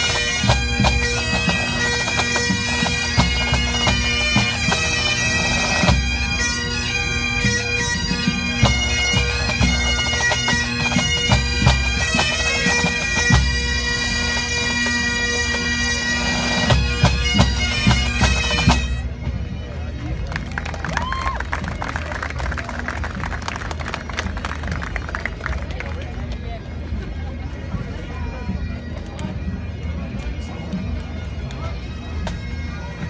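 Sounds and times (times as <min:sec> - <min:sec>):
bagpipes with drones: 0:00.0 - 0:33.0.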